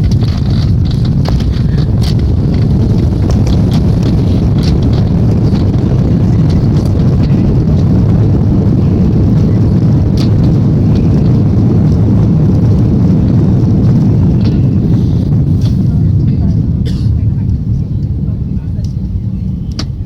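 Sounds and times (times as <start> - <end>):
light rattles: 0.0 - 20.0
low rumble of aircraft taxiing: 0.0 - 20.0.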